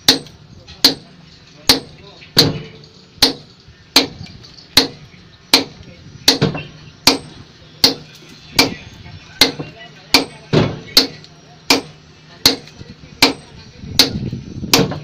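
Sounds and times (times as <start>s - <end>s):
sledgehammers striking concrete: 0.0s - 8.8s, 9.4s - 15.0s.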